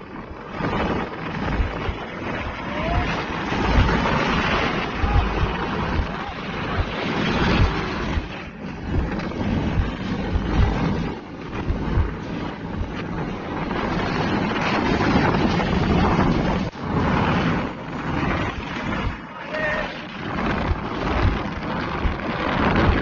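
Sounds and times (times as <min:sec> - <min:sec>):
highway traffic rumbling: 0:00.0 - 0:23.0
wind buffeting microphone: 0:00.0 - 0:23.0.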